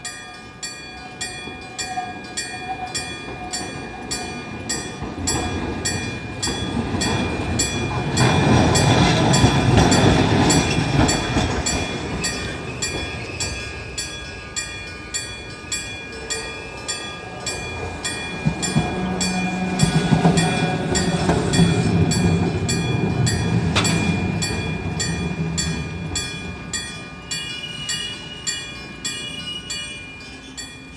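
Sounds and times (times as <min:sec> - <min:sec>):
level-crossing bell clanging: 0:00.0 - 0:30.9
trains rumbling past: 0:00.0 - 0:30.9.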